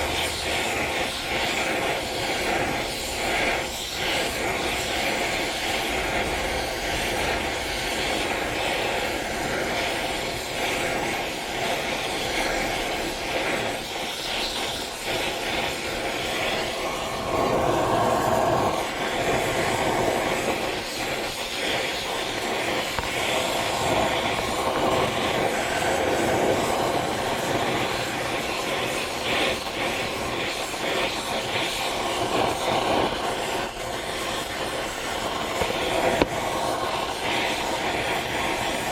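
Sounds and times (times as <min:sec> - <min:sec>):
gas torch roaring: 0:00.0 - 0:38.9.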